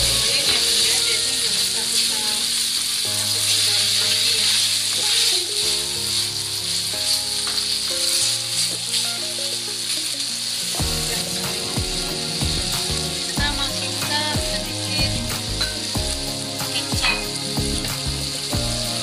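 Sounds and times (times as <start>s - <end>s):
food sizzling in a frying pan: 0.0s - 19.0s
soft background music: 0.0s - 19.0s.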